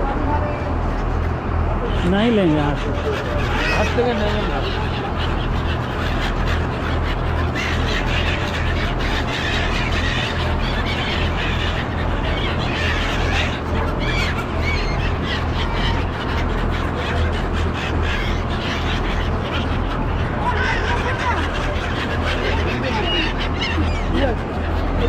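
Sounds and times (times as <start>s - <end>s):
ferry engine humming: 0.0s - 25.0s
gulls calling: 0.0s - 25.0s.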